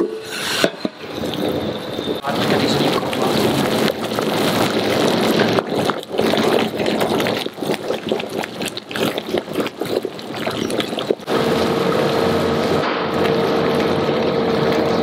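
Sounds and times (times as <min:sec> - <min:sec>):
water boiling in a pot: 0:00.1 - 0:15.0.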